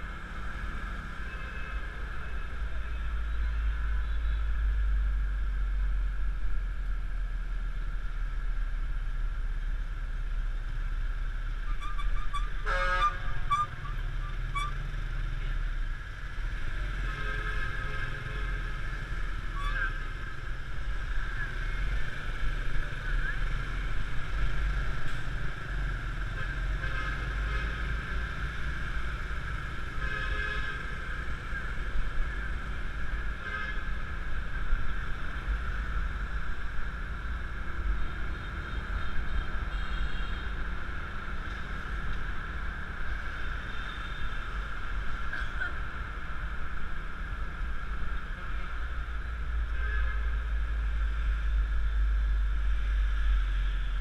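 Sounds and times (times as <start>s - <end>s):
traffic noise: 0.0s - 54.0s.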